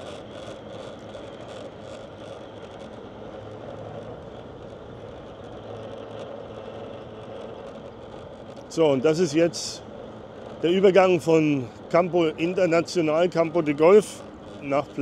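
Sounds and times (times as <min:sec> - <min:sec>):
car driving road noise: 0:00.0 - 0:15.0.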